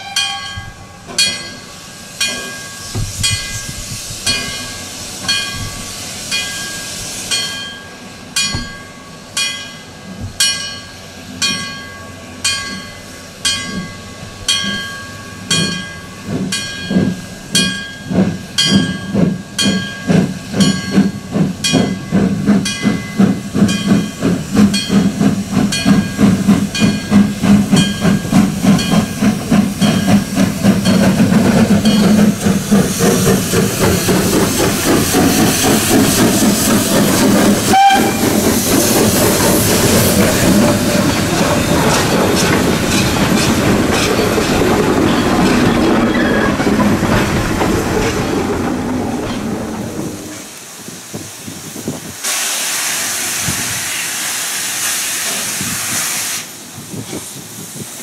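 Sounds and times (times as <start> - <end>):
steam locomotive exhaust chuffs: 0.0 - 58.0
steady steam hiss: 0.7 - 47.3, 47.9 - 58.0.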